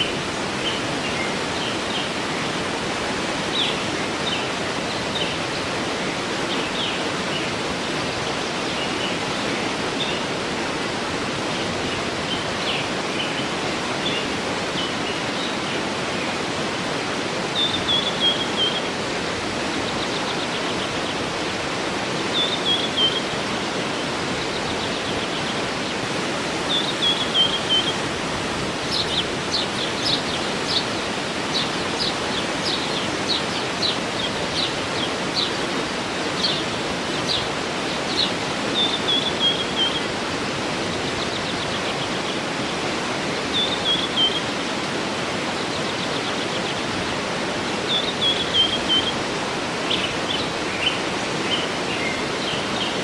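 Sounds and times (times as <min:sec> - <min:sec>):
songbird singing: 0:00.0 - 0:44.8, 0:45.4 - 0:53.0
waterfall rushing: 0:00.0 - 0:53.0.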